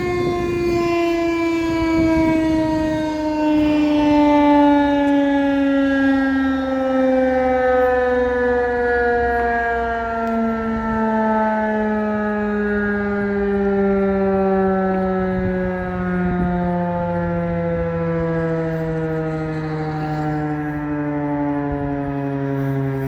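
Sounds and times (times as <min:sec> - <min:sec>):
siren winding down: 0:00.0 - 0:23.0.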